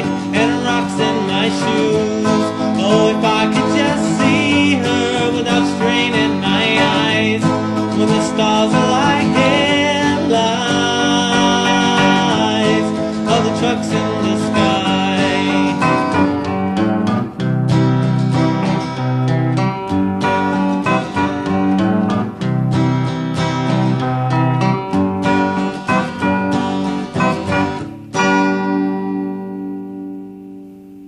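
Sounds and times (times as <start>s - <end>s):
acoustic guitar: 0.0s - 31.0s
wavering lead melody: 0.0s - 31.0s.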